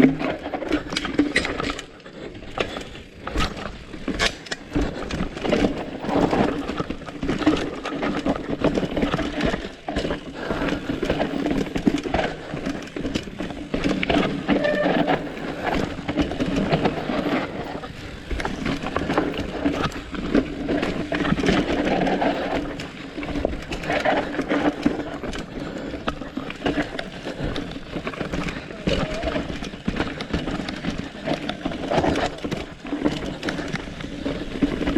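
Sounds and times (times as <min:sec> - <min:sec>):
bike rattling over rough trail: 0:00.0 - 0:34.9.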